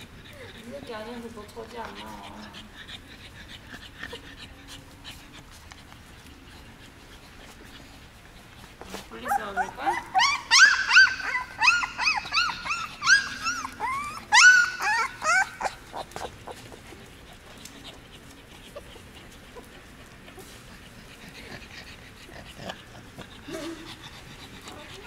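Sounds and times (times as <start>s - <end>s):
puppies whimpering: 0.0s - 25.0s.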